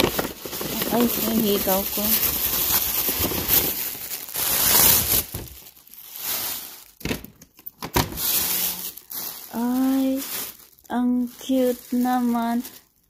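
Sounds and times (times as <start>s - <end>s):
tissue paper rustling: 0.0s - 7.0s, 8.0s - 13.0s.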